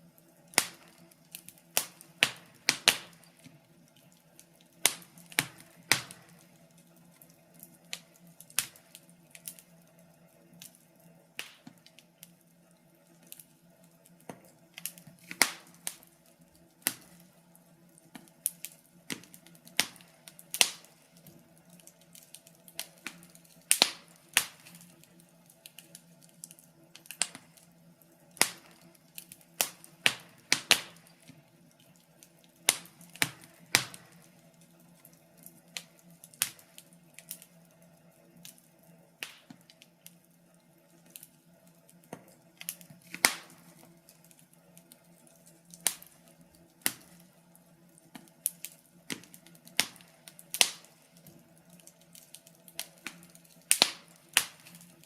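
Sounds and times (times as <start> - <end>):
low steady hum: 0.0 - 55.0
wood fire crackling: 0.0 - 55.0.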